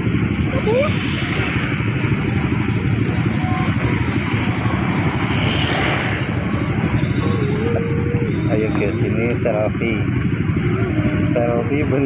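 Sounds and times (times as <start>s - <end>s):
bus engine running: 0.0s - 12.0s
road noise: 0.0s - 12.0s.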